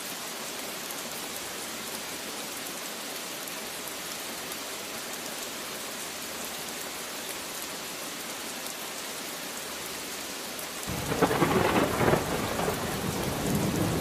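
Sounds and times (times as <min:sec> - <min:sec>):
rain falling on a surface: 0:00.0 - 0:14.0.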